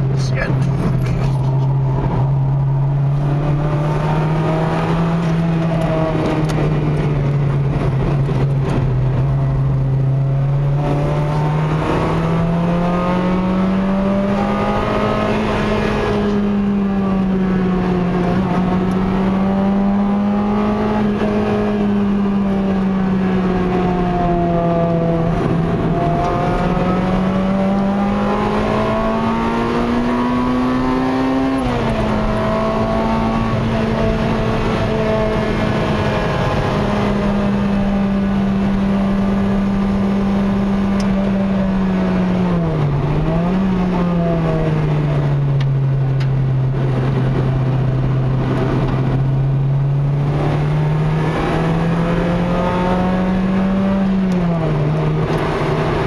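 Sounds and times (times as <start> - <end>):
car engine at moderate revs: 0.0 - 56.0.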